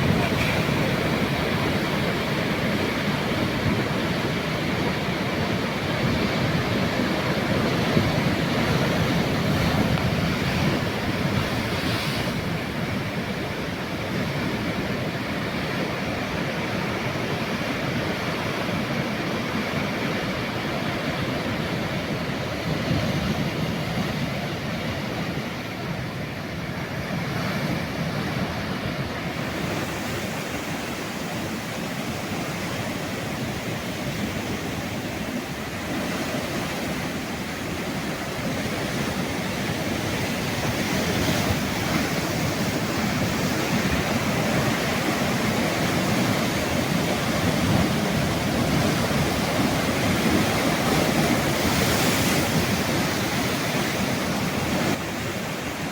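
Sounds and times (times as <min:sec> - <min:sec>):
ocean waves breaking on shore: 0:00.0 - 0:55.9
wind on microphone: 0:00.0 - 0:55.9.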